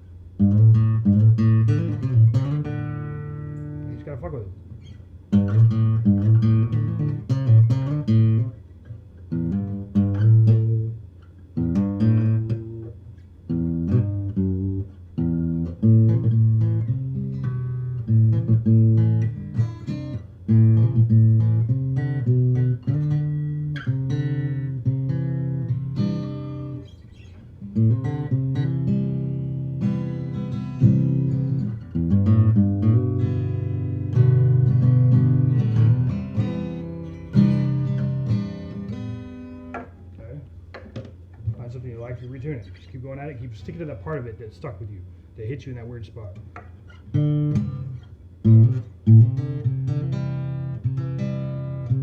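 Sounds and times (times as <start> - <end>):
acoustic guitar plucking: 0.3 - 44.8, 46.3 - 52.0.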